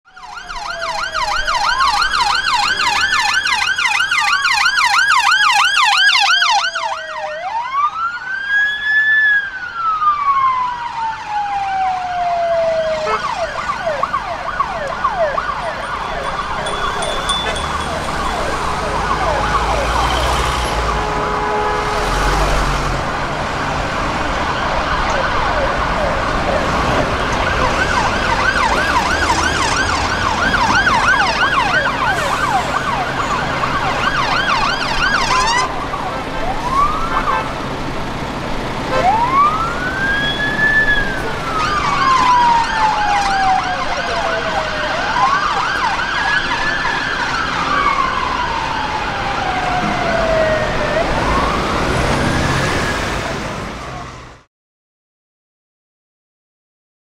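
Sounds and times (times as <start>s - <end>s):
city traffic: 0.0s - 54.5s
siren slow wail: 0.0s - 54.5s
siren fast yelp: 0.1s - 21.8s, 27.4s - 37.6s, 38.9s - 53.2s.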